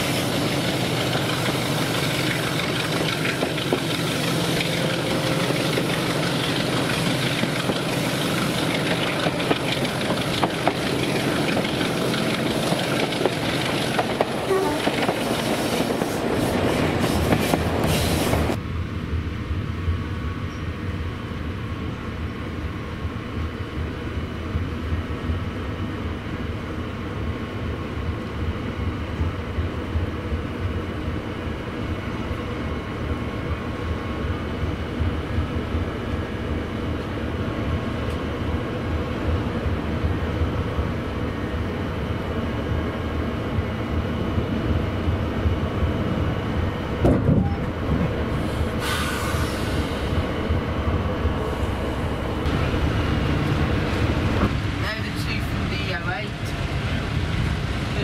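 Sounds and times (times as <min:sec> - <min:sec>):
diesel train engine drone: 0:00.0 - 0:58.0
rail noise: 0:00.0 - 0:58.0.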